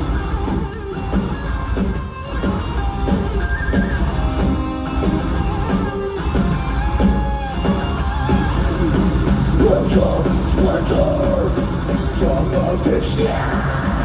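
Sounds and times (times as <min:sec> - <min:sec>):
metal band playing live: 0:00.0 - 0:14.0.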